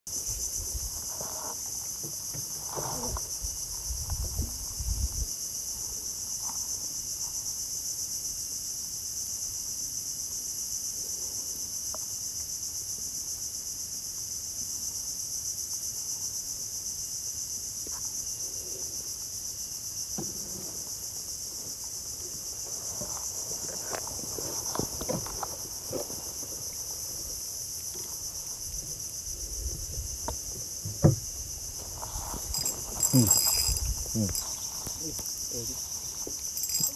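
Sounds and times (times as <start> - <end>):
insects droning: 0.1 - 36.9.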